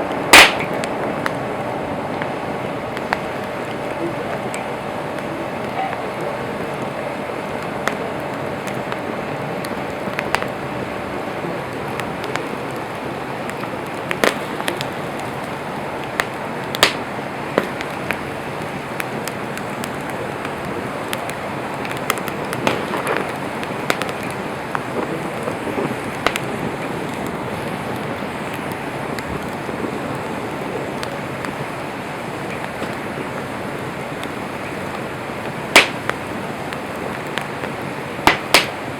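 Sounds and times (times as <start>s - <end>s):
burning wood popping and crackling: 0.0s - 38.9s
campfire flames hissing: 0.0s - 38.9s.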